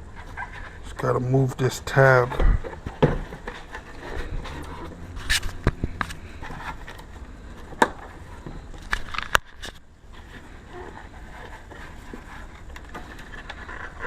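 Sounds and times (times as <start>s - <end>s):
low steady rumble: 0.0s - 14.0s
scraping handling noises: 0.1s - 14.0s.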